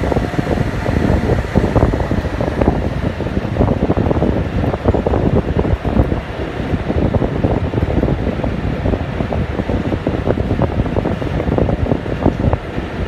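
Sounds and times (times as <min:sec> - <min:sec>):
steady engine drone: 0:00.0 - 0:13.0
wind buffeting microphone: 0:00.0 - 0:13.0.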